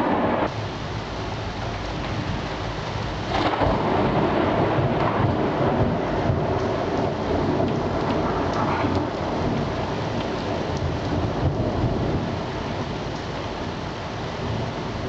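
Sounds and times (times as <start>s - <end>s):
rain hissing: 0.0s - 15.0s
thunder rumbling: 0.0s - 15.0s.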